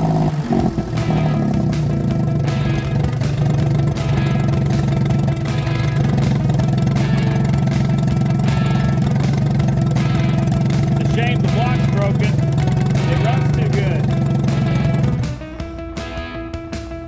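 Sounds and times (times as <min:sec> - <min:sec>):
outboard motor running: 0:00.0 - 0:15.8.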